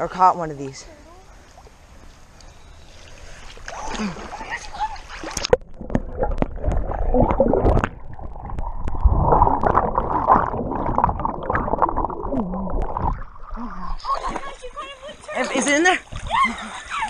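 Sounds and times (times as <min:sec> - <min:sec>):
muffled underwater sloshing: 0:01.3 - 0:17.0.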